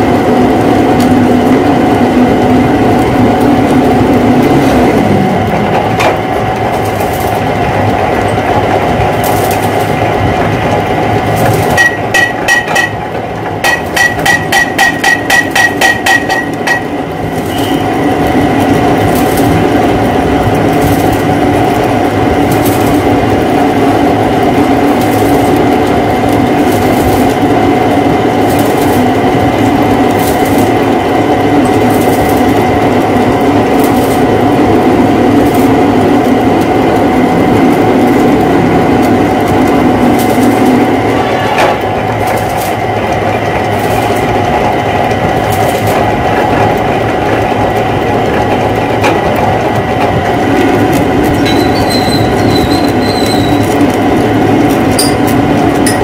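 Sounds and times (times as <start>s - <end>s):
metal lathe running: 0.0s - 56.0s.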